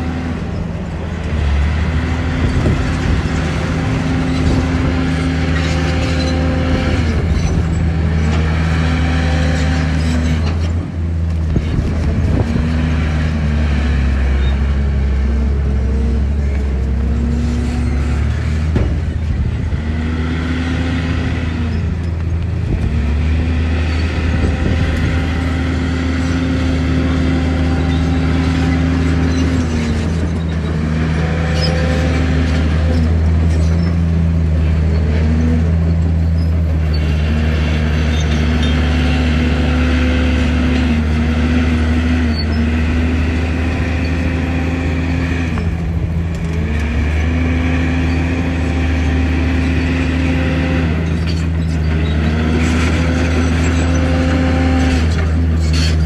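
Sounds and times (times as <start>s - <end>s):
heavy diesel engine running hard: 0.0s - 56.0s.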